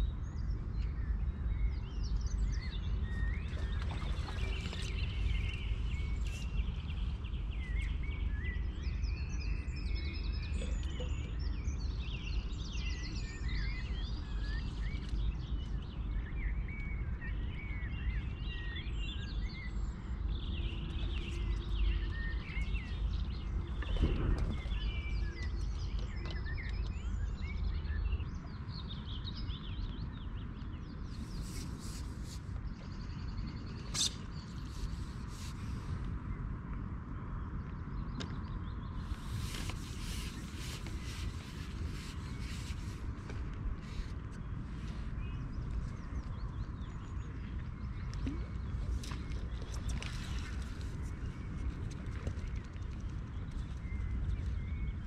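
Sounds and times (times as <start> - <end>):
birds singing and chirping: 0.0 - 36.0, 37.8 - 55.0
low steady rumble: 0.0 - 55.0.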